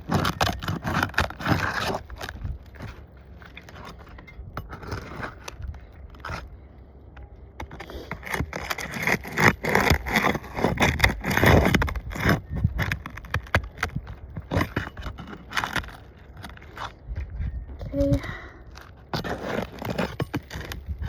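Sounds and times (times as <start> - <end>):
roof shingles scraping and crackling: 0.0 - 6.7, 7.6 - 17.1, 18.7 - 21.0.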